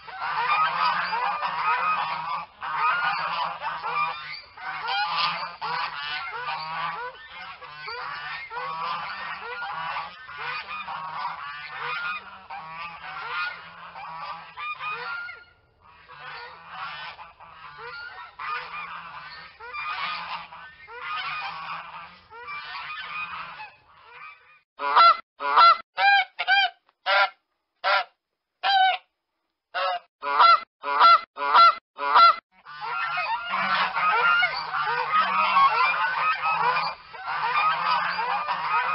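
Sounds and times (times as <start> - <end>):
flock of geese honking: 0.0 - 29.0, 29.8 - 38.9
single goose honks: 0.0 - 29.1, 29.8 - 38.9.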